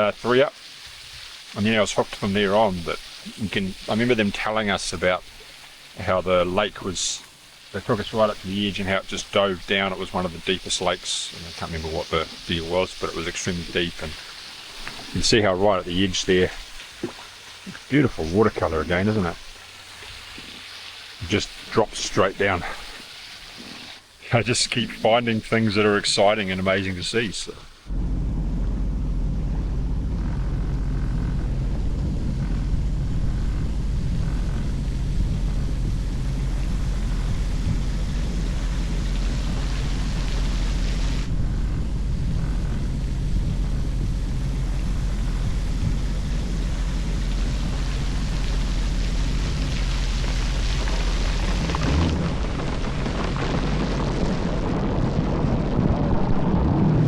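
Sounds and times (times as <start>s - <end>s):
wind and water spray rushing: 0.0s - 27.9s, 34.1s - 41.3s, 43.7s - 57.0s
jet ski engine rumbling: 6.0s - 27.2s, 27.9s - 57.0s.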